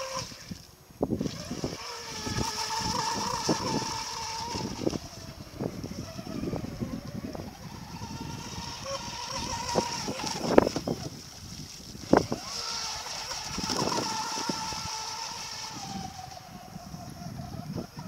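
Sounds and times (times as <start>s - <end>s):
electric motor whine of model boat: 0.0s - 18.0s.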